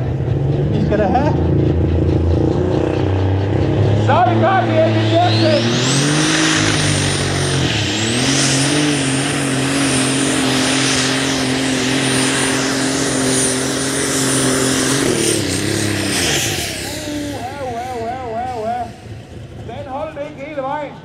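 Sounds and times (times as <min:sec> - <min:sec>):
high turbo whine: 0:00.0 - 0:21.0
tractor engine at full throttle: 0:00.0 - 0:21.0.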